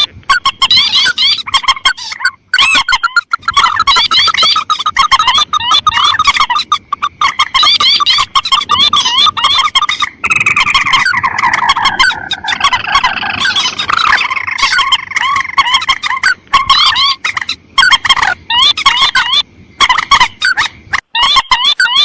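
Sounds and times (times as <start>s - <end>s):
rail bird calls repeating: 0.0s - 22.0s.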